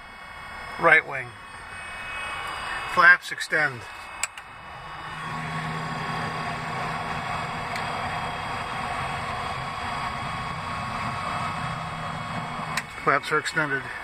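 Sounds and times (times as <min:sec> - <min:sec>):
electric flap motor running: 0:00.0 - 0:14.0.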